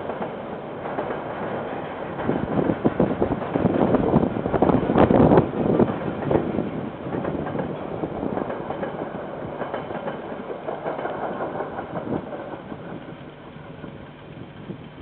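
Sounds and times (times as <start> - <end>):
train rattling past on rails: 0.0 - 15.0.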